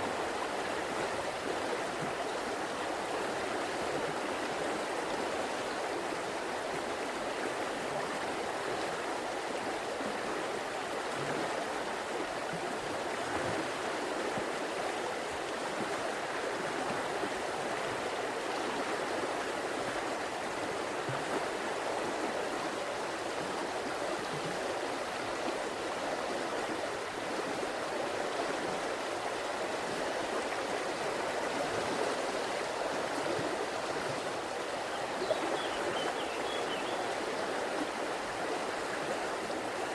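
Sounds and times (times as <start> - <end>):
river water burbling over rocks: 0.0 - 39.9.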